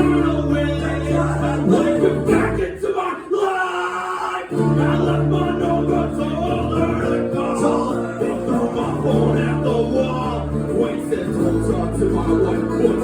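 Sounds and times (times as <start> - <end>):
live acoustic band music: 0.0 - 2.6, 4.6 - 13.0
person singing: 0.0 - 13.0.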